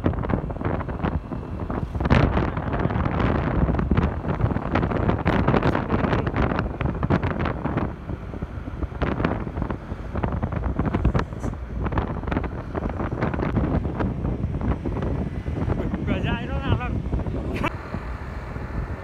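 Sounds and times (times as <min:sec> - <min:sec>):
truck rumbling: 0:00.0 - 0:19.0
wind buffeting microphone: 0:00.0 - 0:19.0.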